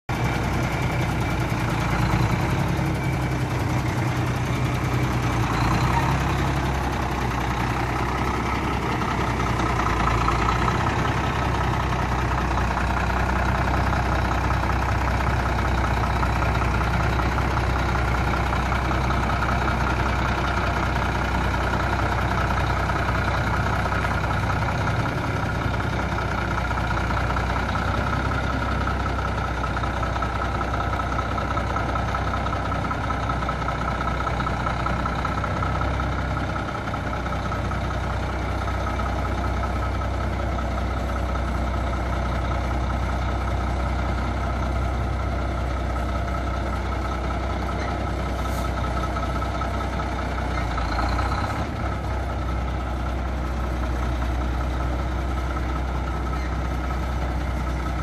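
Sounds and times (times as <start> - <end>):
lorry diesel engine running: 0.1 - 58.0.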